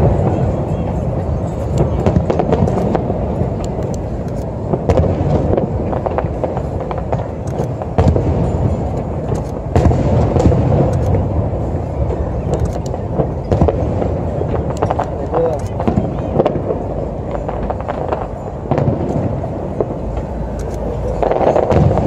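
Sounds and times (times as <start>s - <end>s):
fireworks cracks and bangs: 0.0s - 22.0s.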